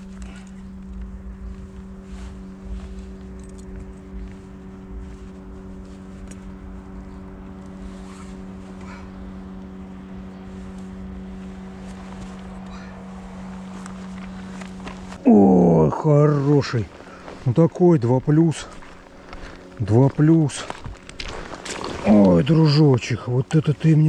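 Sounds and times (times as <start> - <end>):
low motor hum: 0.0 - 24.0
low rumbling noise: 0.0 - 24.0.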